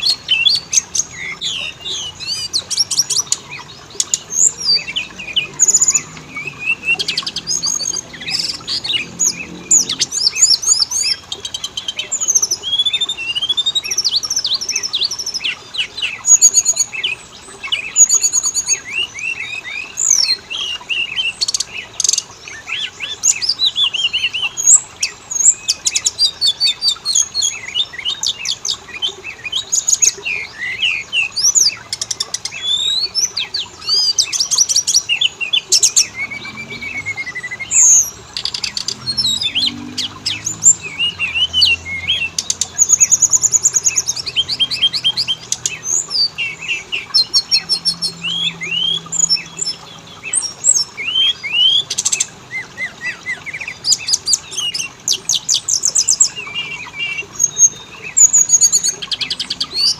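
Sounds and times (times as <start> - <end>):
songbird whistles and trills: 0.0 - 59.9.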